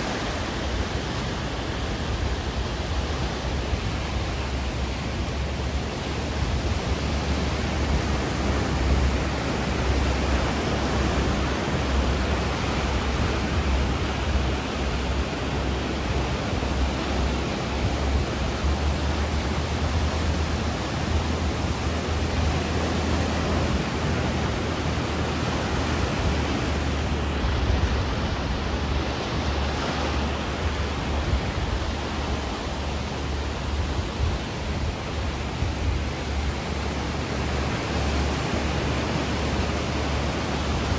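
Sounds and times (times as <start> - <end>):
ocean waves and surf rushing: 0.0 - 40.9.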